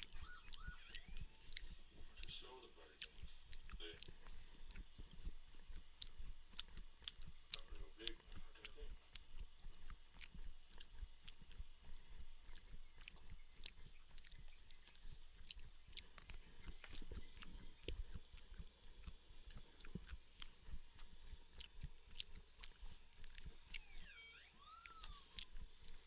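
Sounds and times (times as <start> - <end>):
person chewing close to microphone: 0.0 - 26.0.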